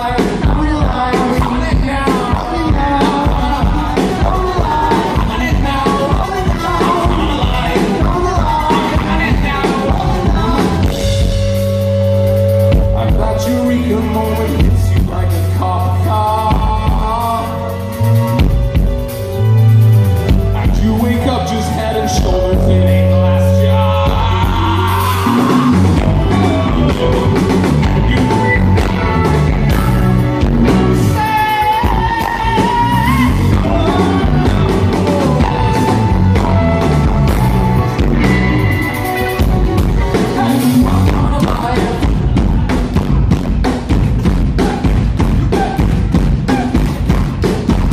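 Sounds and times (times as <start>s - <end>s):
person singing: 0.0s - 18.2s, 20.5s - 47.2s
live rock band playing: 0.0s - 47.9s.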